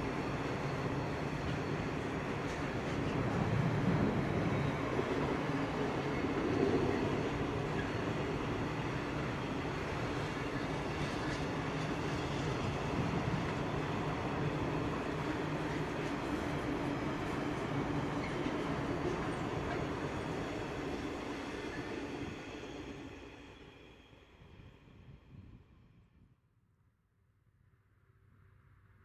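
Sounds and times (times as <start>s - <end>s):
freight train wheels rumbling: 0.0s - 24.3s.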